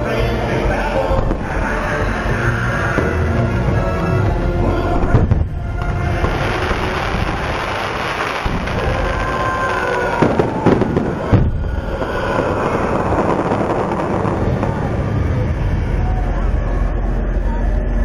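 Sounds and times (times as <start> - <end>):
fireworks crackling: 0.0 - 16.3
fireworks booms: 1.0 - 16.0.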